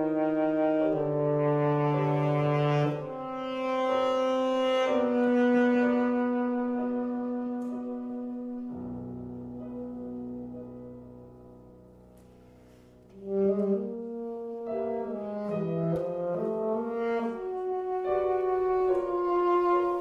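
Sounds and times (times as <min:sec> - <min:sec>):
alto saxophone melody: 0:00.0 - 0:11.2, 0:12.7 - 0:20.0
piano notes: 0:00.0 - 0:20.0.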